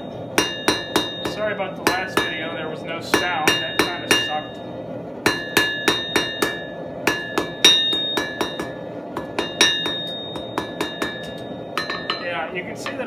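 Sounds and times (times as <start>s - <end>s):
anvil ringing: 0.0s - 12.4s
hammer striking steel on anvil: 0.0s - 13.0s.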